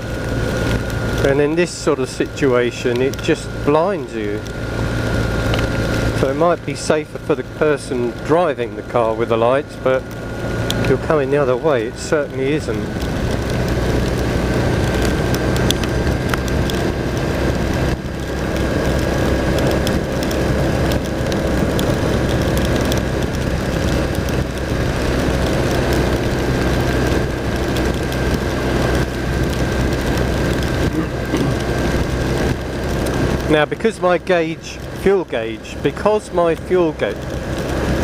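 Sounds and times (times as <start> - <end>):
heavy rain: 0.0 - 38.0
motorcycle engine running: 0.0 - 38.0
raindrops hitting microphone: 0.0 - 38.0.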